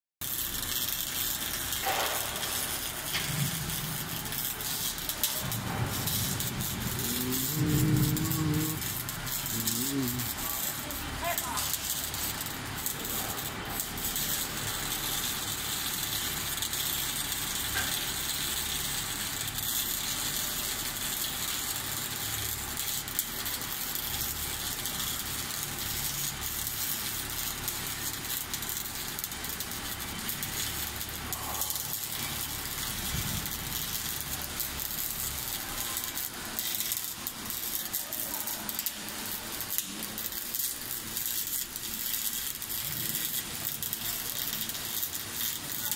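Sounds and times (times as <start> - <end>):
welding torch crackling hiss: 0.2 - 45.9.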